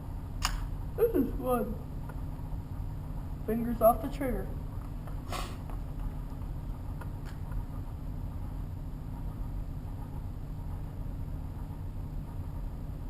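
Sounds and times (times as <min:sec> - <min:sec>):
low indoor background hum: 0:00.0 - 0:13.0.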